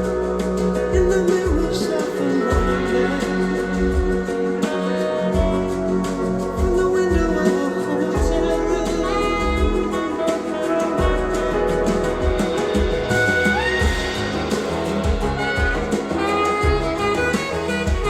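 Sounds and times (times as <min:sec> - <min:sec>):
jazzy instrumental music over loudspeakers: 0:00.0 - 0:18.0.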